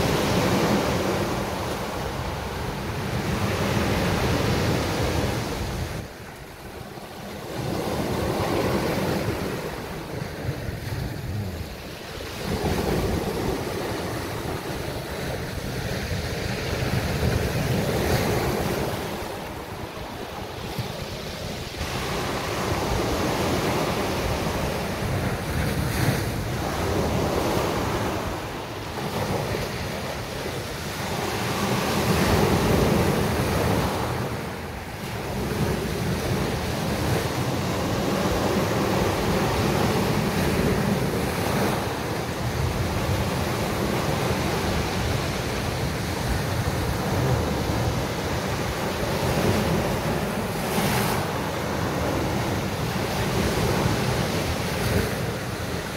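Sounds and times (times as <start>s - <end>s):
sea waves breaking on beach: 0.0s - 55.9s
wind buffeting microphone: 0.0s - 55.9s.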